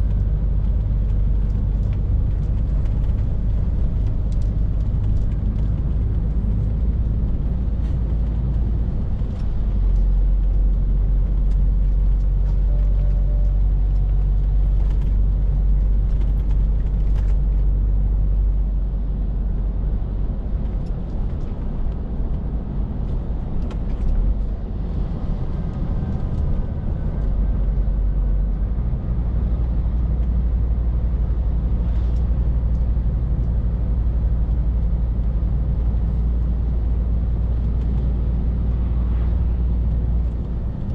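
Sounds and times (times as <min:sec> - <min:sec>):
lorry diesel engine drone: 0:00.0 - 0:40.9
road noise: 0:00.0 - 0:40.9.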